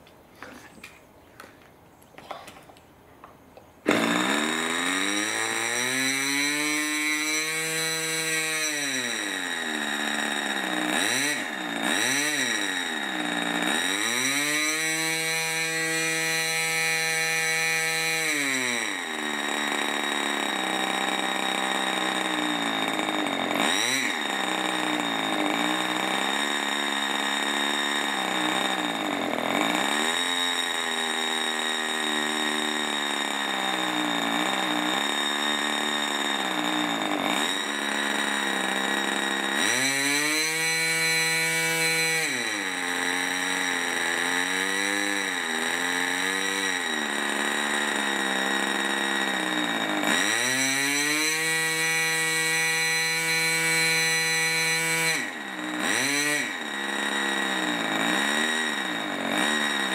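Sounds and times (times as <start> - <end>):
model engine running: 3.8 - 59.9.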